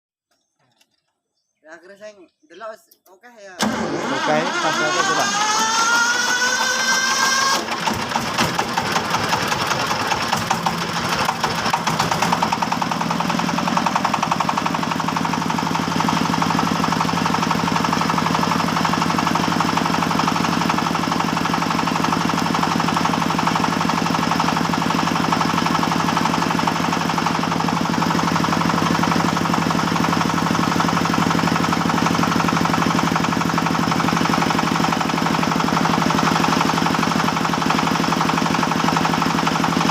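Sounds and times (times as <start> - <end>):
chainsaw engine revving and idling: 3.6 - 39.9.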